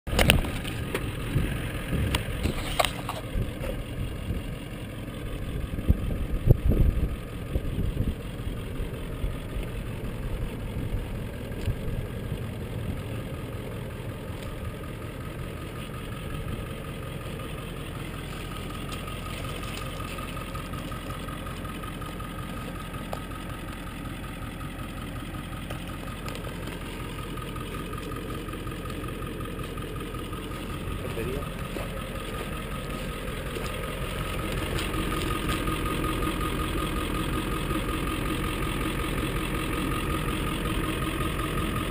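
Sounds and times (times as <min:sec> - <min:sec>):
pickup engine idling: 0:00.1 - 0:41.9.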